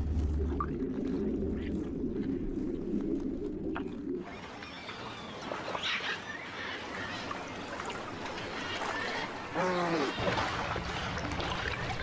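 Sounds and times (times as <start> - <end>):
muffled underwater water ambience: 0.0 - 12.0.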